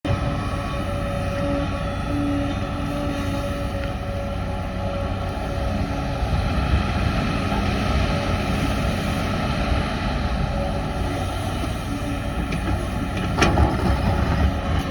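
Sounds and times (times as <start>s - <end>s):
excavator diesel engine hum: 0.0s - 14.9s.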